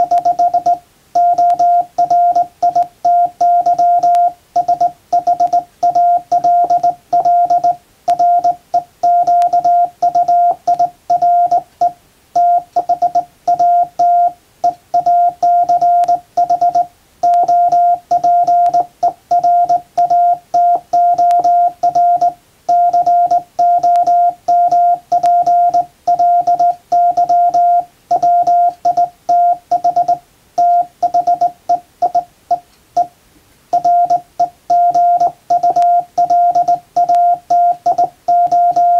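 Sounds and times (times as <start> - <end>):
morse code tone: 0.0 - 33.1, 33.7 - 38.9.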